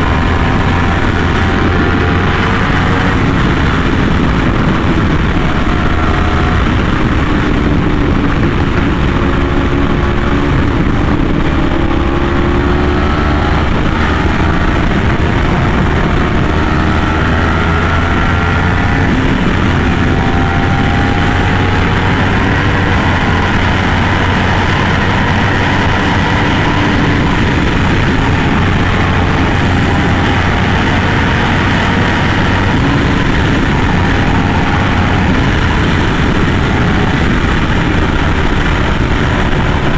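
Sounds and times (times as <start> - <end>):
sport bike engine running: 0.0 - 39.9
steady rushing noise: 0.0 - 39.9.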